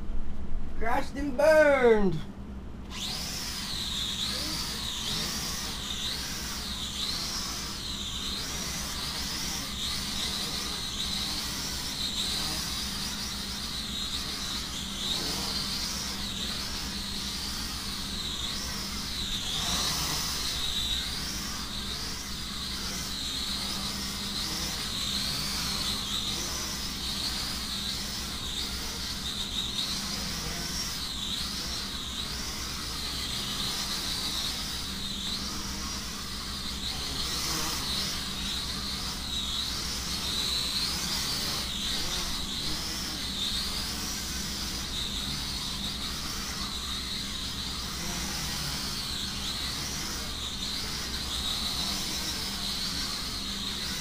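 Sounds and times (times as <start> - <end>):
steady low hum: 0.0 - 54.0
quadcopter propellers whining: 0.8 - 54.0.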